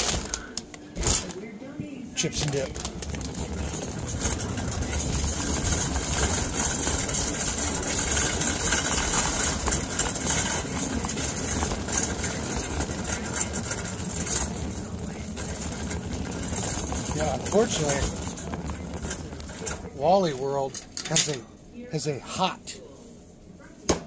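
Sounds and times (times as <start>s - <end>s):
shopping cart rolling: 0.0s - 1.5s, 2.2s - 21.6s.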